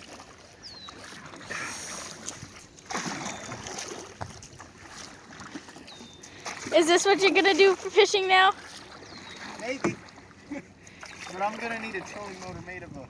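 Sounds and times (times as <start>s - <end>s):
oar strokes splashing in water: 0.0s - 13.0s.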